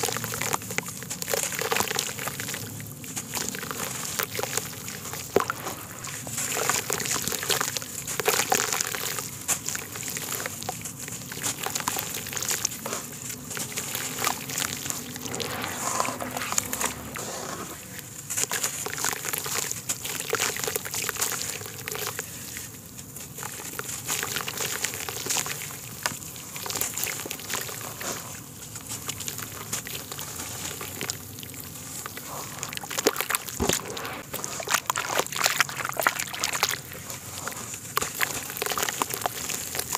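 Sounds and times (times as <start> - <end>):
hands squelching wet mud: 0.0 - 39.9
water sloshing and splashing: 0.0 - 39.9.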